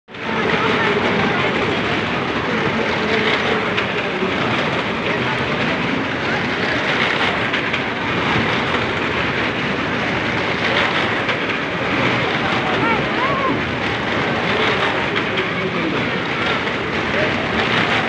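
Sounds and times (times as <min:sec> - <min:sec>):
crowd voices: 0:00.1 - 0:18.0
car engines running loudly: 0:00.2 - 0:18.0.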